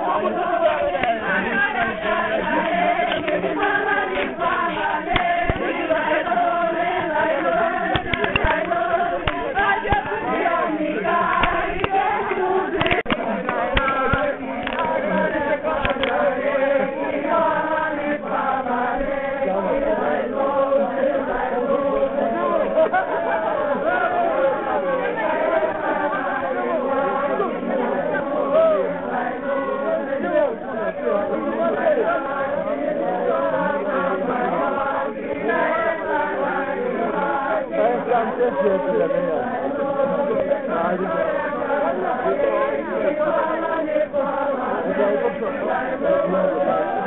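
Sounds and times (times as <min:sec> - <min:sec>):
group chanting: 0:00.0 - 0:47.0.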